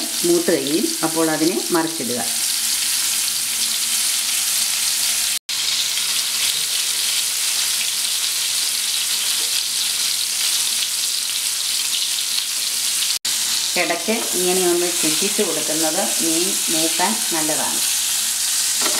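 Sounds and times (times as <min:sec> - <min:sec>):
fish sizzling in hot oil: 0:00.0 - 0:18.9.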